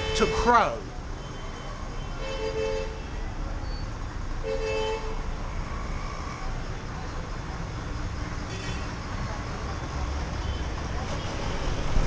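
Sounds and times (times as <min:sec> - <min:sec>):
street traffic rumbling: 0:00.0 - 0:12.0.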